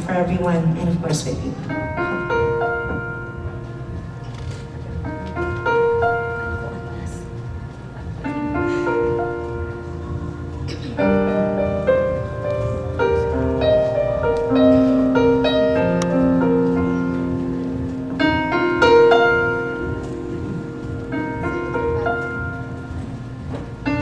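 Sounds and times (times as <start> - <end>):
piano chords and melody: 0.0 - 24.0.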